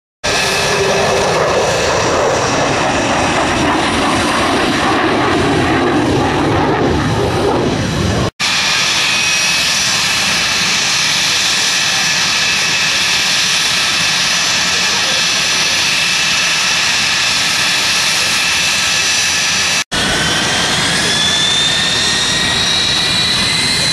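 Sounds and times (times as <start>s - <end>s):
fighter jet engine roaring: 0.2s - 23.9s
jet turbofans whining: 0.2s - 23.9s.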